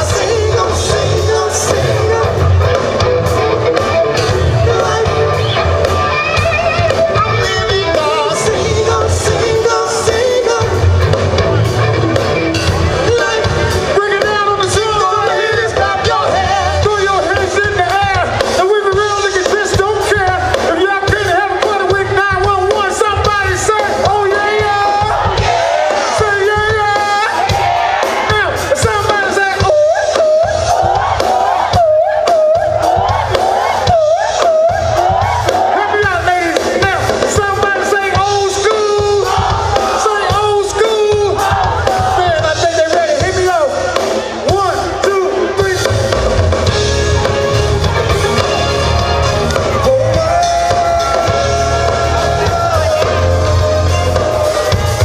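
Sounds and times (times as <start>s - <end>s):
drum beat: 0.0s - 55.0s
heavy bass line: 0.0s - 55.0s
loud music with singing: 0.0s - 55.0s.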